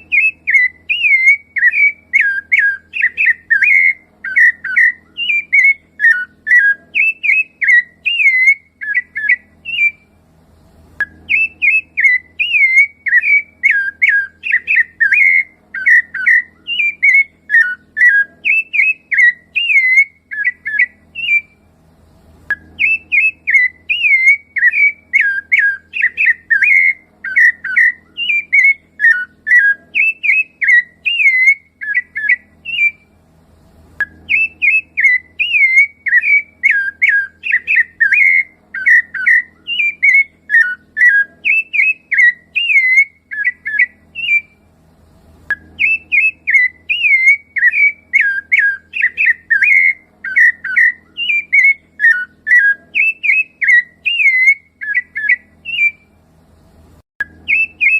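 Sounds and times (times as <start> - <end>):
thrush singing fluty whistles: 0.0 - 10.2, 11.0 - 21.7, 22.5 - 33.2, 34.0 - 44.7, 45.5 - 56.2, 57.2 - 57.9.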